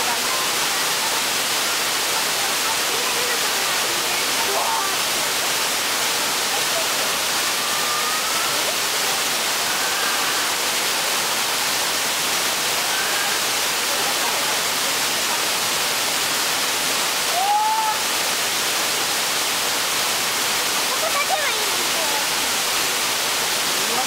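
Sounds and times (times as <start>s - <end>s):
waterfall roar: 0.0s - 24.0s.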